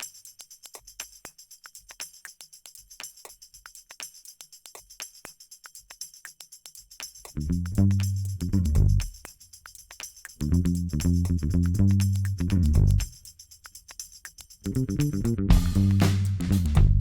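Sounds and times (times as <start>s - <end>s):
tambourine-like jingle beat: 0.0s - 17.0s.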